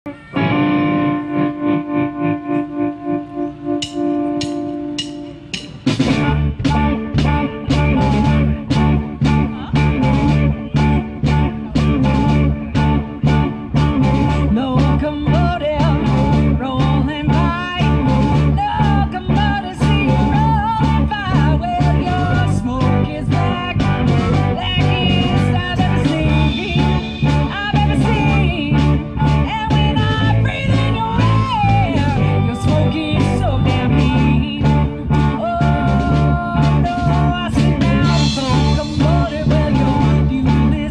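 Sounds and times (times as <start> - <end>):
live blues band playing: 0.1 - 40.9
woman singing: 6.1 - 40.9.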